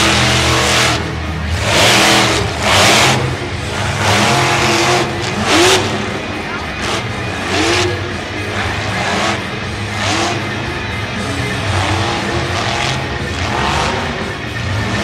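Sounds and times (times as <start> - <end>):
monster truck engine revving: 0.0 - 15.0
music playing: 0.0 - 15.0.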